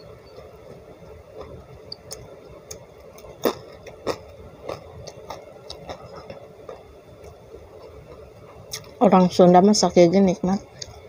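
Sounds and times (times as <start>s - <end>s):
chewing with wet clicks and crunches: 0.0s - 9.0s.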